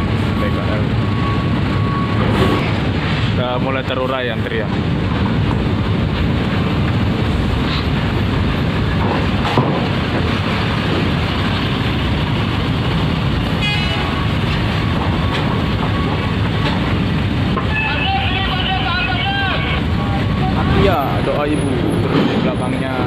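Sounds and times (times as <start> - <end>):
bus engine driving off: 0.0 - 23.0
traffic din: 0.0 - 23.0.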